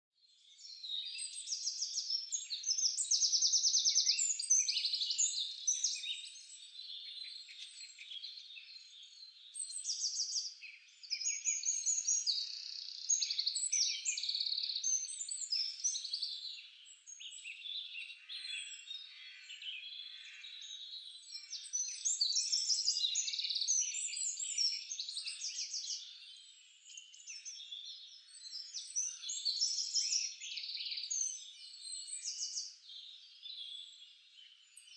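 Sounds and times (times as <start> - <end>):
songbirds chirping and trilling: 0.2 - 34.9.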